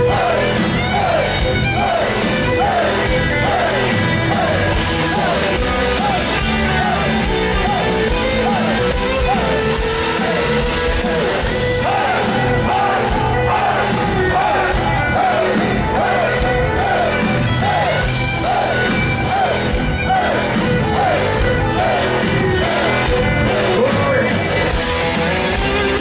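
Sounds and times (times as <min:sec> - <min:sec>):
person singing and shouting: 0:00.0 - 0:24.8
metal band playing live: 0:00.0 - 0:26.0.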